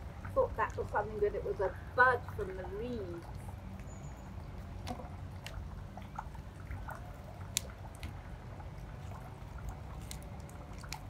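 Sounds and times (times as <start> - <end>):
low steady rumble: 0.0 - 11.0
water dripping and trickling: 0.0 - 11.0.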